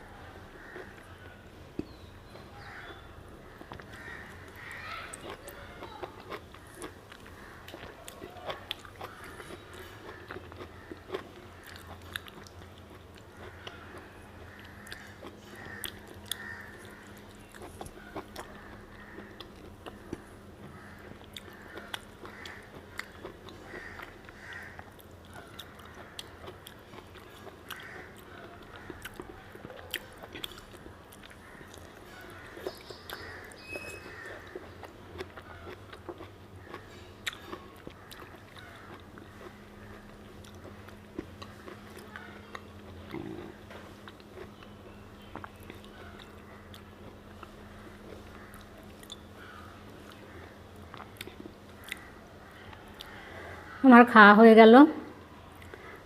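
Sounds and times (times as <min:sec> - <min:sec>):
person chewing: 0:03.4 - 0:53.5, 0:55.6 - 0:56.0.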